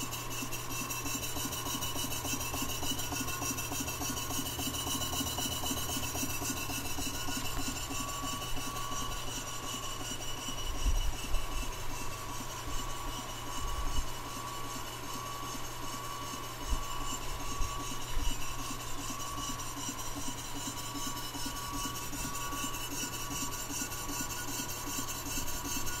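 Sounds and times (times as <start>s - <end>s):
model steam engine running fast: 0.0s - 26.0s.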